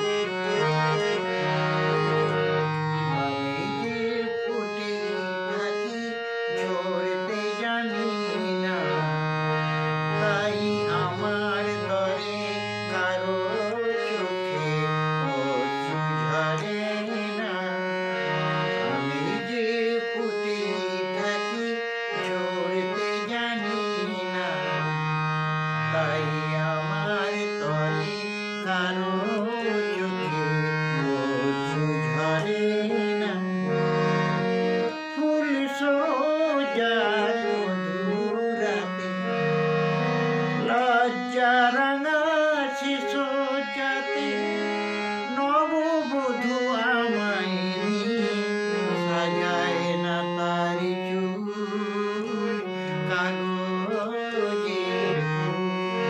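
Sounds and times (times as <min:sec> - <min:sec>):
harmonium chords and melody: 0:00.0 - 0:56.0
man singing: 0:00.0 - 0:56.0.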